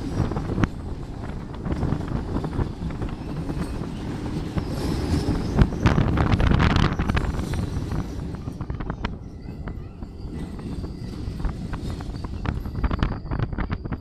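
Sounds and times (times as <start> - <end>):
train rumbling over bridge: 0.0 - 14.0
wheels clanking over rail joints: 0.0 - 14.0.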